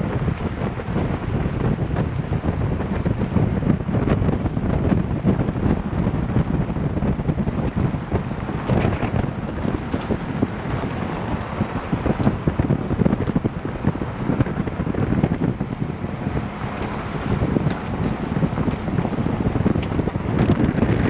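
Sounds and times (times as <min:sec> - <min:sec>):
tyres rumbling on gravel: 0:00.0 - 0:21.0
wind buffeting microphone: 0:00.0 - 0:21.0.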